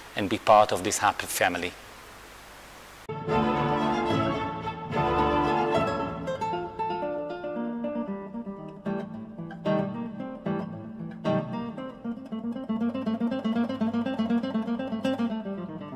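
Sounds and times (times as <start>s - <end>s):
acoustic guitar playing: 3.1s - 15.9s.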